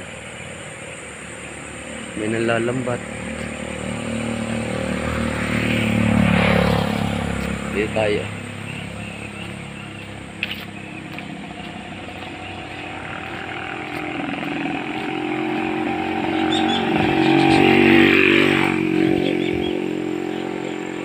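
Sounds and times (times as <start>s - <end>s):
motorcycle engine passing by: 1.6s - 21.0s.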